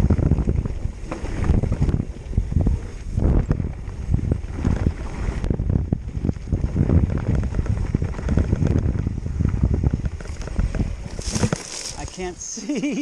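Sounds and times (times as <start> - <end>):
bike rattling over bumps: 0.0 - 12.3
wind rushing over microphone: 0.0 - 12.5
tyres rumbling on dirt: 0.0 - 12.9.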